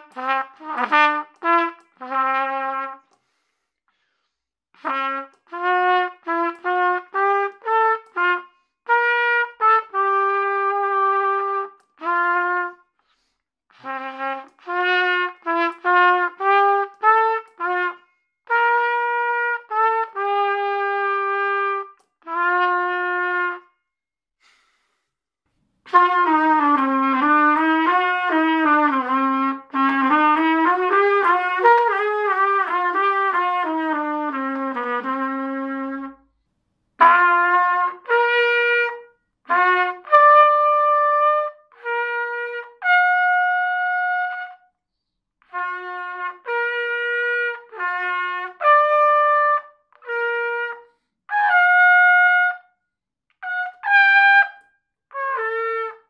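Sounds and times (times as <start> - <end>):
solo trumpet playing: 0.0 - 3.2, 4.8 - 13.0, 13.7 - 23.8, 25.9 - 36.3, 37.0 - 44.7, 45.4 - 52.7, 53.4 - 56.0.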